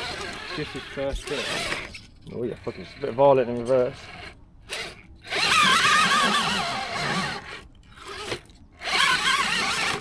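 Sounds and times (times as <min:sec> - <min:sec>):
electric motor and gearbox whining: 0:00.0 - 0:10.0.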